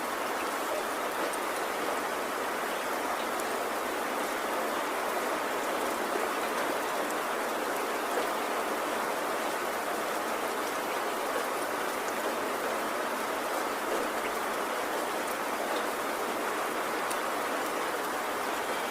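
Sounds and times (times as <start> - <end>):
steady rainfall: 0.0 - 18.9.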